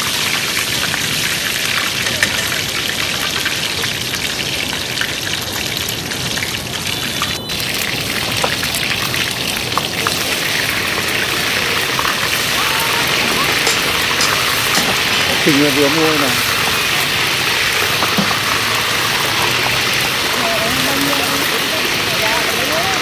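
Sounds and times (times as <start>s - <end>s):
hot oil sizzling and crackling: 0.0s - 23.0s.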